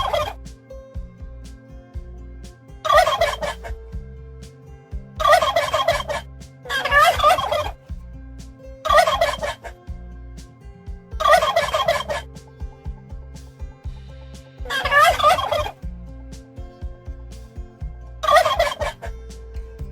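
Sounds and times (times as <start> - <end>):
soft background music: 0.0 - 19.9.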